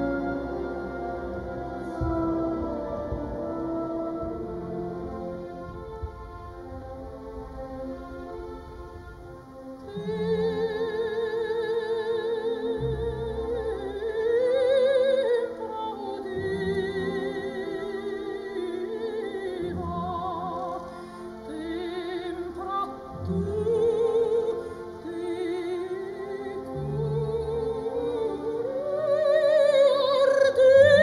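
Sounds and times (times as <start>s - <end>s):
person singing operatic style: 0.0s - 31.0s.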